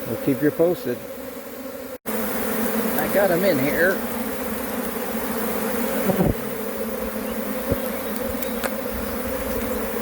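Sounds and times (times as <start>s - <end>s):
bee buzzing past: 0.0s - 10.0s
bee swarm buzzing: 0.0s - 10.0s.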